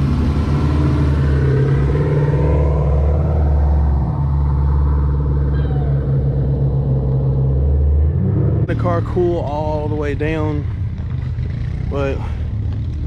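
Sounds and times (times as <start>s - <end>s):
car engine exhaust rumble: 0.0s - 13.0s.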